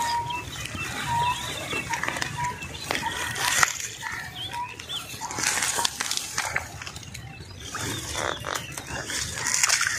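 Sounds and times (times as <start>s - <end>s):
birds calling: 0.0s - 9.9s
high bird chirps: 0.0s - 9.9s.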